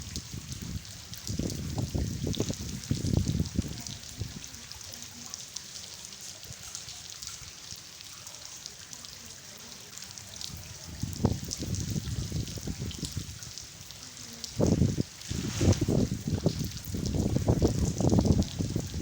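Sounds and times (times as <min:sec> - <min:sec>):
rain falling on hard floor: 0:00.0 - 0:19.0.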